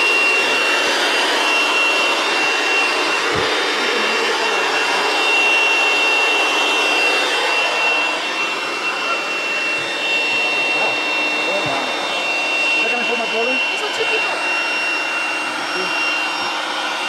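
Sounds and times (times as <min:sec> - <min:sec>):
electric air pump whirring: 0:00.0 - 0:17.0.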